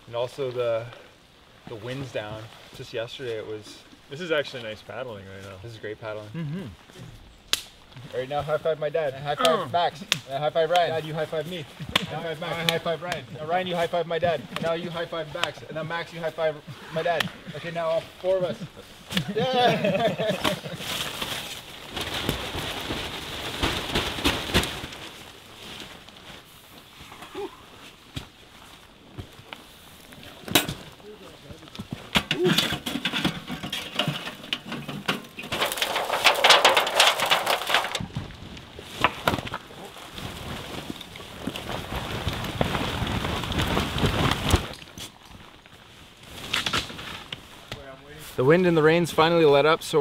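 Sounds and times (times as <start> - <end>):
tarp rustling and crinkling: 0.0 - 50.0.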